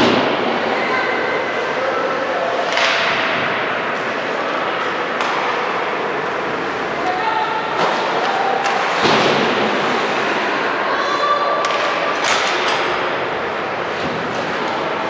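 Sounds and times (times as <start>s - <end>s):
crowd noise: 0.0s - 15.0s.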